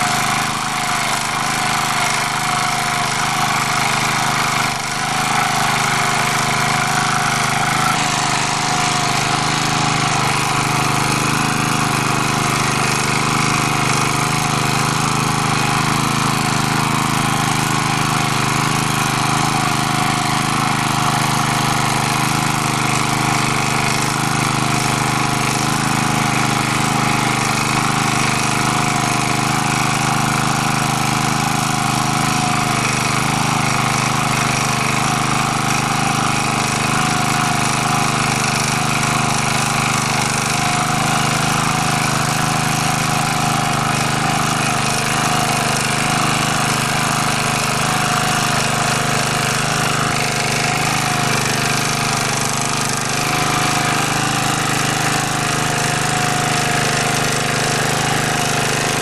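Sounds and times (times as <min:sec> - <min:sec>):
rotary tiller churning soil: 0:00.0 - 0:59.0
tractor engine running: 0:00.0 - 0:59.0.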